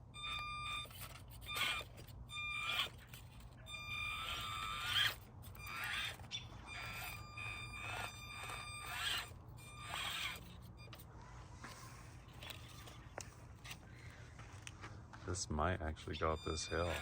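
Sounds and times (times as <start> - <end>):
small electric motor whining: 0.0 - 14.1, 16.0 - 17.0.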